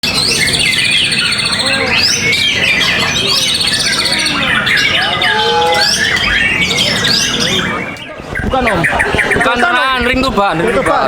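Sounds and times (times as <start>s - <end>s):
songbirds singing in chorus: 0.0s - 11.0s.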